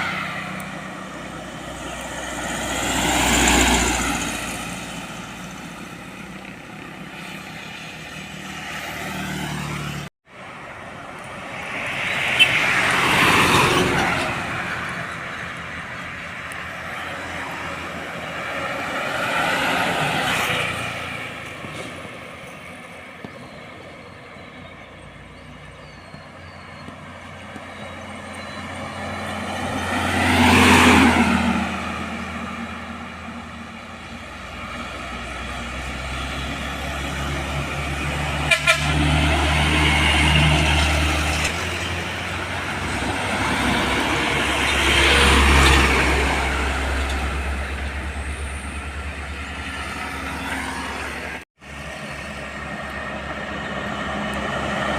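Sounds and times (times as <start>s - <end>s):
heavy trucks passing: 0.0s - 54.9s.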